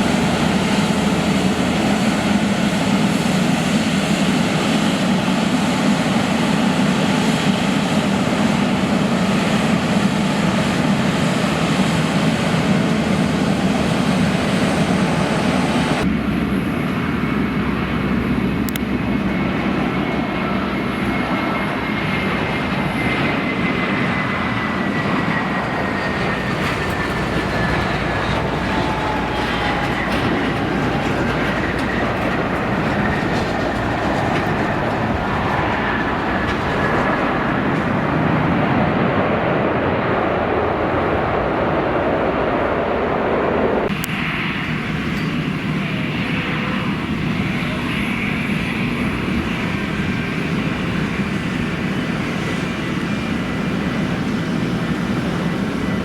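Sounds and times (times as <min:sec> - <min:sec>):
jet engine whine gliding down: 0:00.0 - 0:56.0
jet engines roaring: 0:00.0 - 0:56.0.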